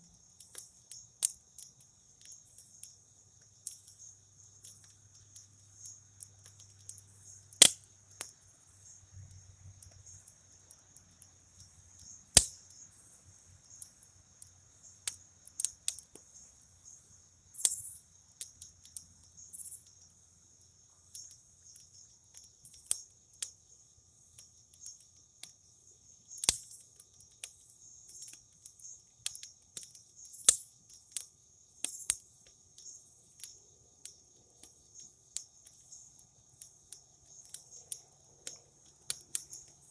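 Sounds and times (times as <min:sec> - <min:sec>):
wood fire crackling and popping: 0:00.0 - 0:16.8, 0:17.6 - 0:39.9
crickets chirping: 0:00.0 - 0:39.9.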